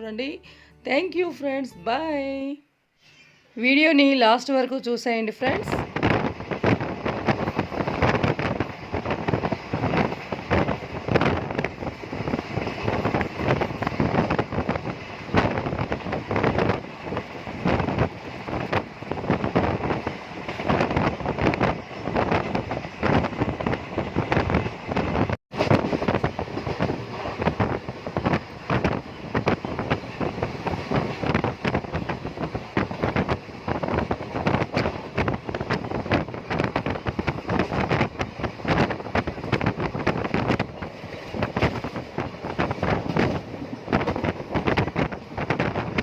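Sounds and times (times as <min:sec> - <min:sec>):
wind rushing over microphone: 0:05.5 - 0:46.0
vehicle rattles and knocks: 0:05.9 - 0:46.0.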